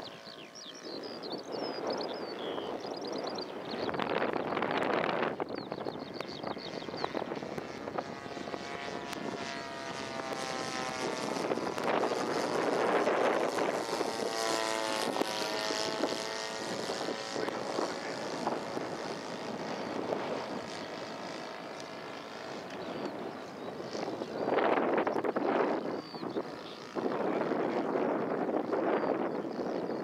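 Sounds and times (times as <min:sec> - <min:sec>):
model plane engine droning: 0:00.0 - 0:30.0.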